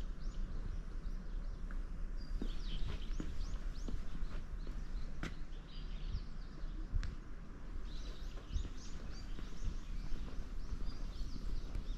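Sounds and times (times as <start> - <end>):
low outdoor rumble: 0.0 - 11.9
small birds chirping: 0.0 - 11.9.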